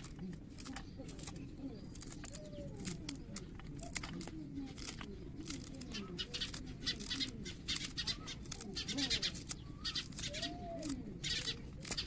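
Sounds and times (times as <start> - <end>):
birds cooing: 0.0 - 12.0
knife cutting herbs: 0.0 - 12.0.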